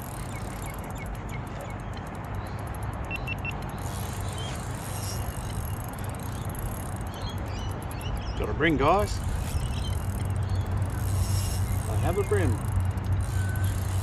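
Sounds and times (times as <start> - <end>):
fishing reel clicking: 0.0 - 14.0.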